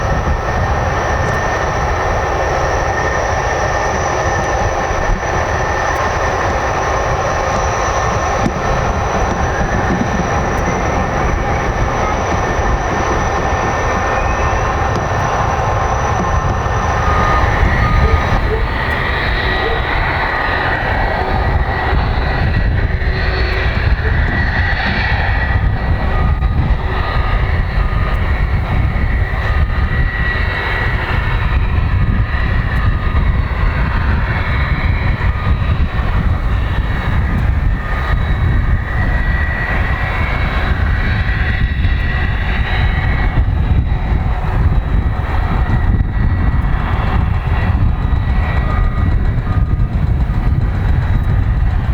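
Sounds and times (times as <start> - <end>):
jet engines running: 0.0 - 51.9.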